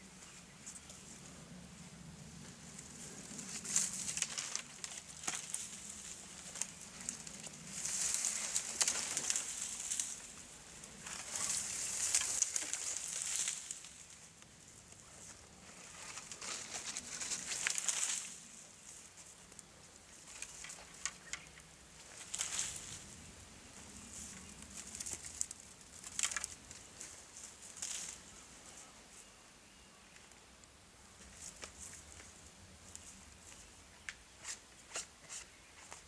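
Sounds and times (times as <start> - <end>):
rustling dry brush and leaves: 0.0 - 36.0.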